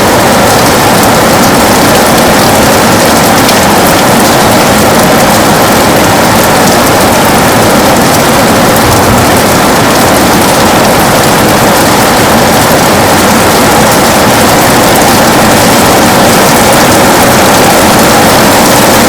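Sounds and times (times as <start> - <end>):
heavy rain on a window: 0.0 - 19.0.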